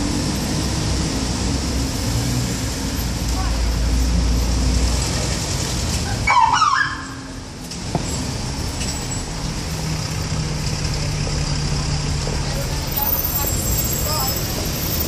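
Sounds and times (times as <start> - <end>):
bus and vans passing: 0.0 - 15.0.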